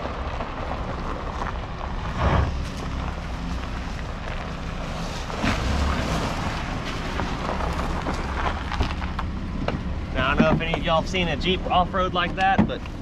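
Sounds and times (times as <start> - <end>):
car engine running: 0.0 - 13.0
tyres on gravel: 0.0 - 13.0.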